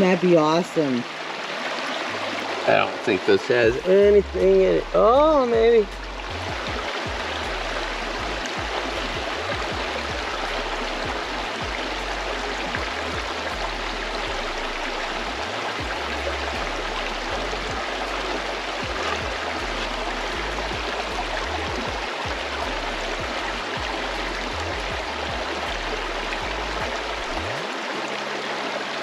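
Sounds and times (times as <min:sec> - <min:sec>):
river water running over rocks: 0:00.0 - 0:29.0.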